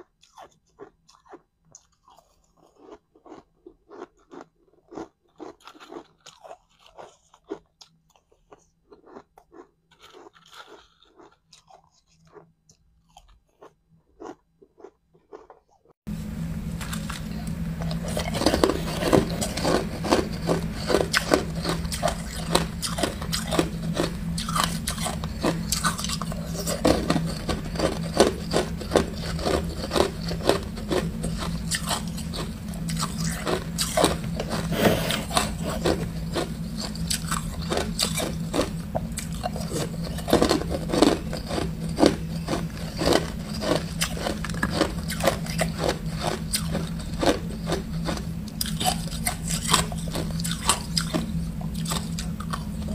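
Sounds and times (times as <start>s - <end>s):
ice crunching in mouth: 0.0s - 15.8s, 16.8s - 52.9s.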